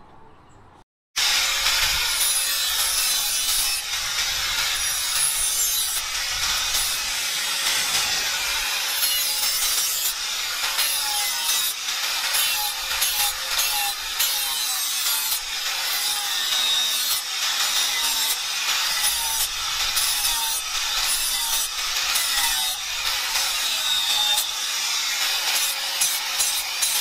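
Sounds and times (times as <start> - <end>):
angle grinder grinding steel: 1.2 - 27.0.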